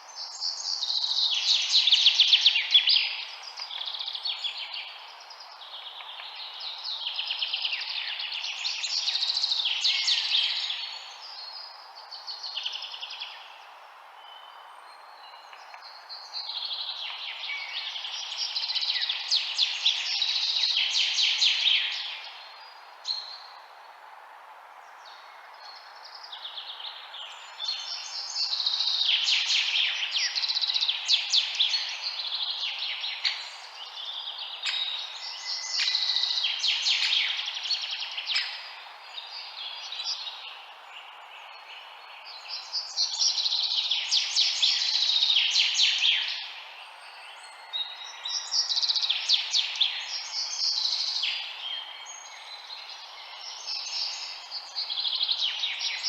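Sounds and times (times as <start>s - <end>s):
songbirds chirping and trilling: 0.0s - 56.0s
white noise hiss: 0.0s - 56.0s.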